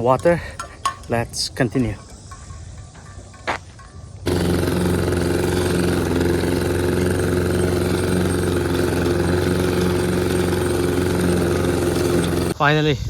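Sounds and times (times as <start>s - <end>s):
lawn mower engine running: 1.7s - 12.6s.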